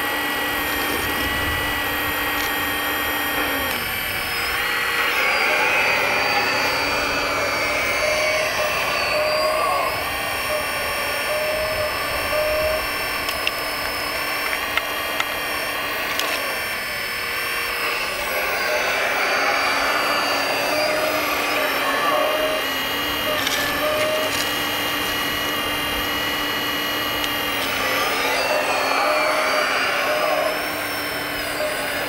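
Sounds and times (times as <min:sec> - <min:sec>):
hydraulic pump whining: 0:00.0 - 0:32.0.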